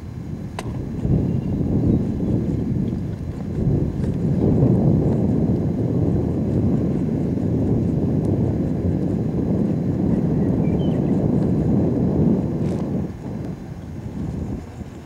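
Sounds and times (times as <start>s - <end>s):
distant propeller plane engine: 0.0s - 15.0s
wind buffeting microphone: 0.0s - 15.0s.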